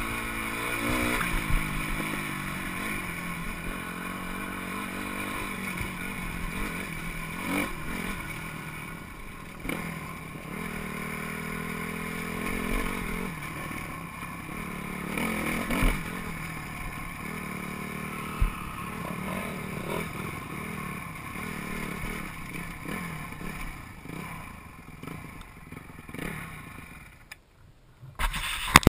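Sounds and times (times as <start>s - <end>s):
dirt bike engine revving: 0.0s - 27.3s.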